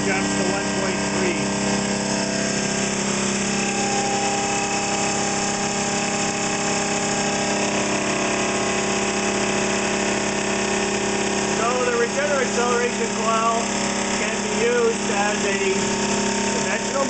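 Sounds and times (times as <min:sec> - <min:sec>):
generator hum: 0:00.0 - 0:17.0.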